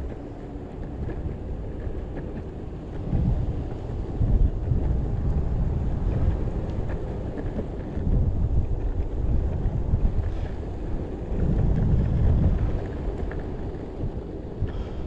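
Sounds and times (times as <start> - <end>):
skateboard wheels rolling on pavement: 0.0 - 15.0
wind buffeting microphone: 0.0 - 15.0.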